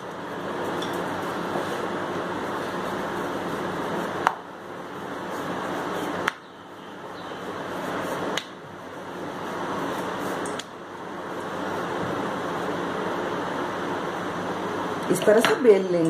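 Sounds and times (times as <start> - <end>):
rolling pin rolling dough: 0.0 - 15.7.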